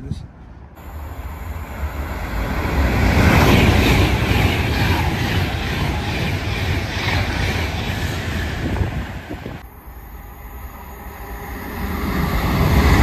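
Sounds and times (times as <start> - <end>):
train passing at speed: 0.4 - 13.0.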